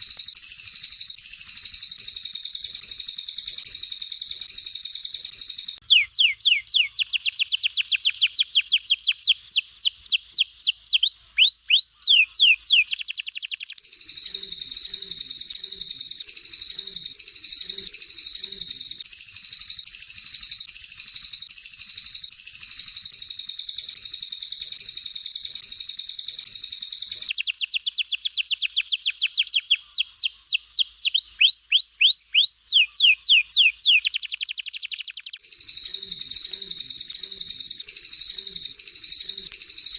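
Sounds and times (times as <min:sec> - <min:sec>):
descending whistled bird notes: 0:00.0 - 0:39.9
high dense bird twittering: 0:00.0 - 0:39.9.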